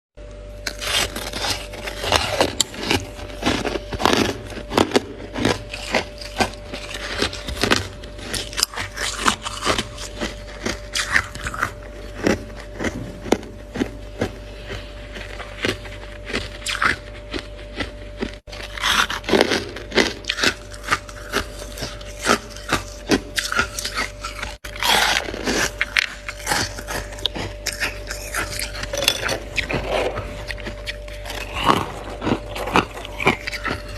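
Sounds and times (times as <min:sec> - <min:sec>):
faint steady hum: 0:00.2 - 0:33.9
frost crunching and scraping: 0:00.2 - 0:33.9.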